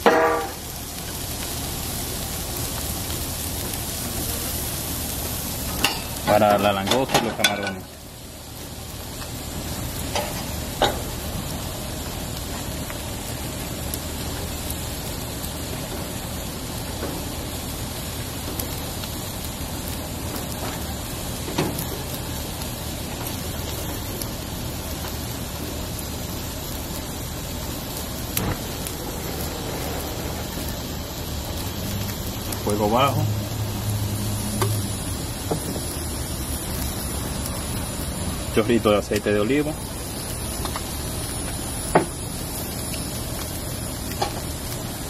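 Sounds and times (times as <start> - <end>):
seafood sizzling on grill: 0.0 - 45.0.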